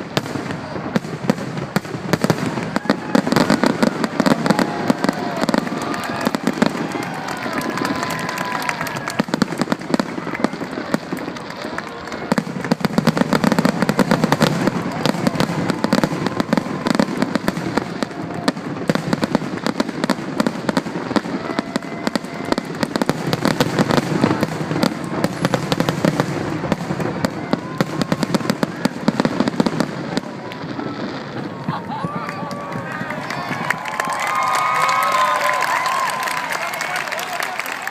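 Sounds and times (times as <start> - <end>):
fireworks bangs and crackling: 0.0 - 37.9.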